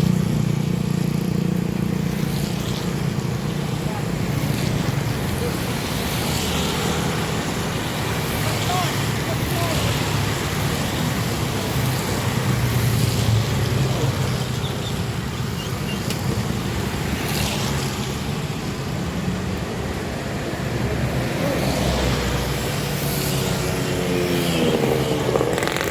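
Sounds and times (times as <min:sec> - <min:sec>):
road traffic passing: 0:00.0 - 0:25.9.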